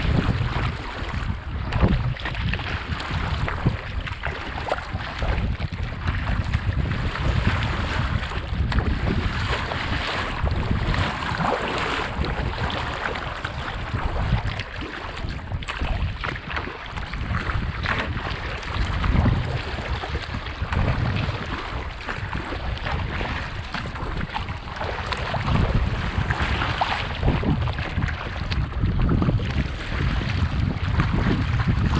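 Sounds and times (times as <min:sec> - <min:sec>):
waves splashing around kayak: 0:00.0 - 0:31.9
wind buffeting microphone: 0:00.0 - 0:31.9.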